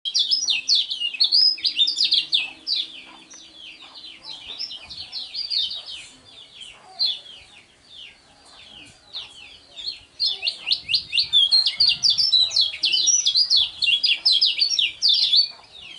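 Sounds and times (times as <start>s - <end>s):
bird twittering song: 0.1s - 15.9s.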